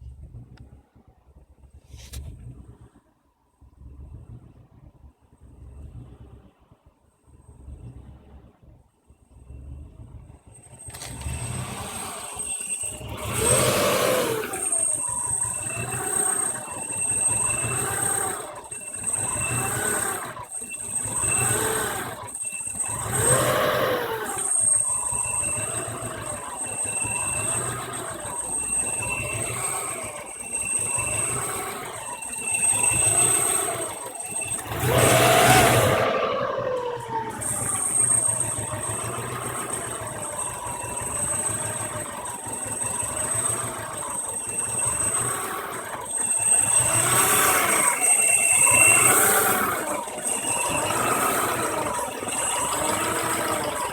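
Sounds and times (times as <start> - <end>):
engine rough idle: 0.0 - 53.9.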